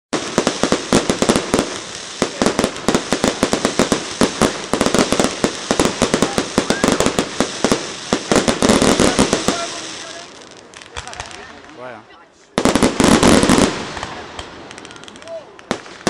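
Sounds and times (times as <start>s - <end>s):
fireworks bangs and crackles: 0.1s - 16.0s.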